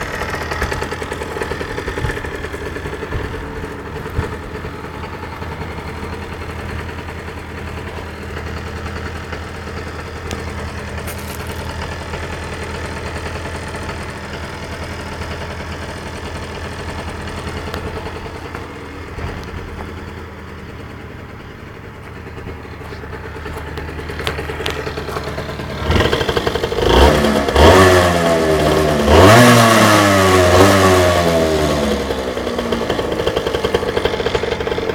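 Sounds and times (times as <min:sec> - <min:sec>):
two-stroke engine idling and revving: 0:00.0 - 0:34.9.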